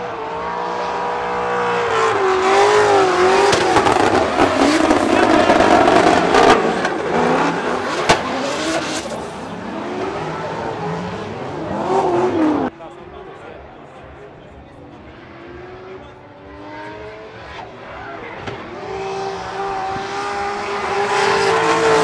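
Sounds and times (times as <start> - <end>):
car engine revving: 0.0 - 12.7, 14.8 - 22.0.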